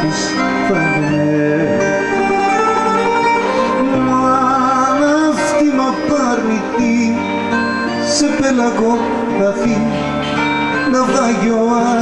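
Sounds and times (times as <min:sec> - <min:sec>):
man singing with vibrato: 0:00.0 - 0:12.0.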